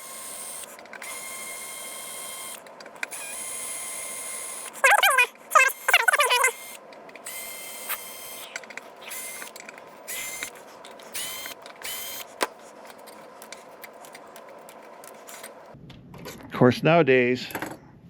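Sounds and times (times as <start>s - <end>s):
cordless drill whirring: 0.0s - 15.8s.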